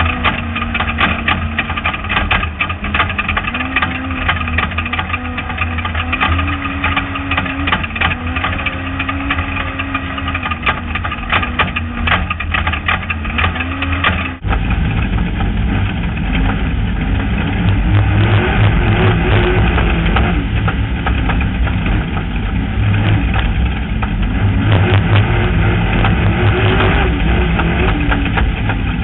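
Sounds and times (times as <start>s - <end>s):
gravel clatter and rattles: 0.0s - 29.0s
vehicle engine running hard: 0.0s - 29.0s.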